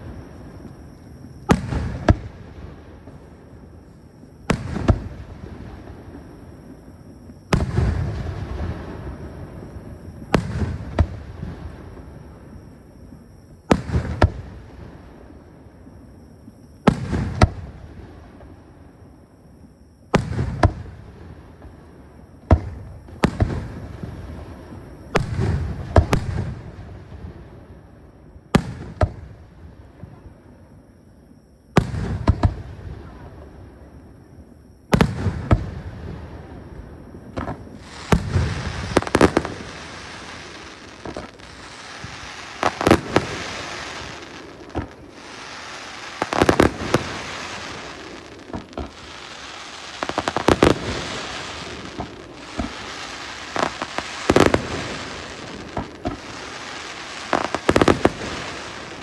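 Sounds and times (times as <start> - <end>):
fireworks crackling: 0.0 - 15.7, 20.1 - 27.8, 34.9 - 59.0
fireworks bursting with bangs: 0.0 - 19.1, 19.7 - 30.6, 31.7 - 59.0.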